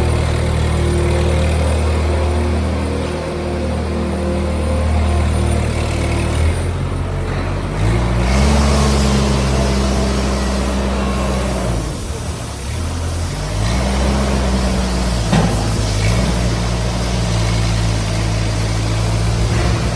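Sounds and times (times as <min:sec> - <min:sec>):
diesel engine revving: 0:00.0 - 0:19.9.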